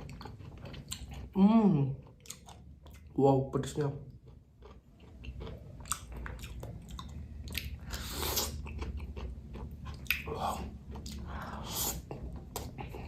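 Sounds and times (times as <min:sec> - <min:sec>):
person chewing with wet crunches: 0:00.0 - 0:13.0.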